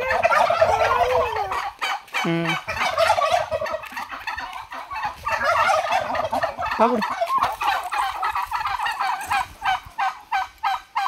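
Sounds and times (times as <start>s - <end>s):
turkeys gobbling: 0.0s - 11.0s.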